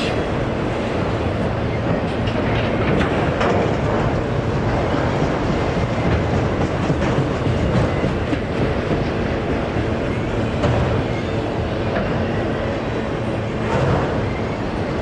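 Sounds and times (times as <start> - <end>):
freight train cars rolling: 0.0 - 15.0.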